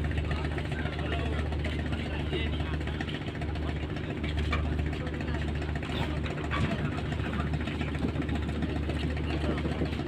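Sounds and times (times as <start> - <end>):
ship engine low hum: 0.0 - 10.0.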